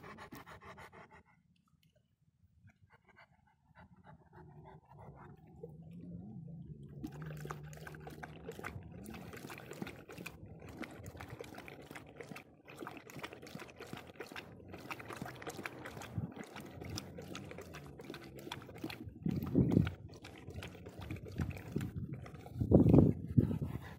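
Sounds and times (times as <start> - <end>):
dog lapping water: 0.0 - 1.2, 3.8 - 23.9.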